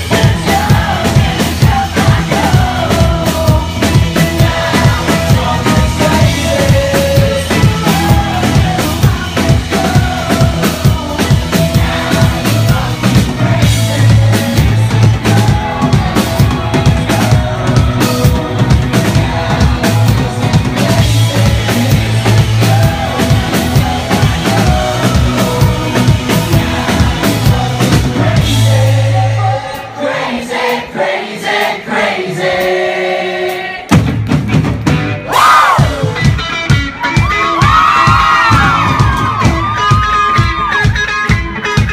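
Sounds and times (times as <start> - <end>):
indie rock band playing live: 0.0 - 30.0, 33.5 - 41.9.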